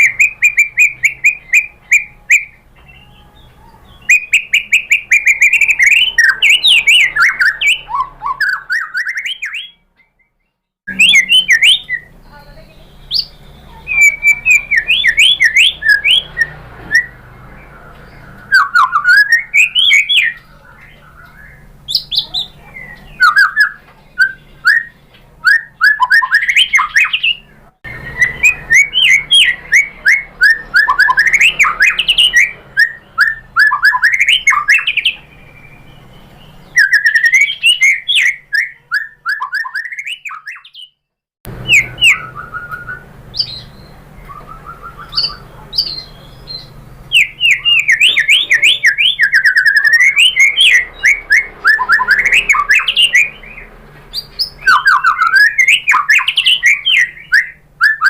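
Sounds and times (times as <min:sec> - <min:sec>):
bird singing varied whistles: 0:00.0 - 0:03.2, 0:03.9 - 0:41.0, 0:41.6 - 0:58.0.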